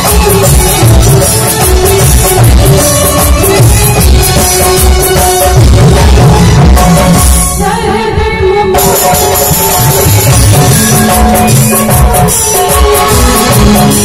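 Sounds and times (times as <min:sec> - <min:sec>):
hand drums: 0:00.0 - 0:07.6, 0:08.8 - 0:14.0
high rhythmic percussion: 0:00.0 - 0:07.9, 0:08.8 - 0:14.0
keyboard: 0:00.0 - 0:14.0
woman singing into a microphone: 0:00.0 - 0:14.0.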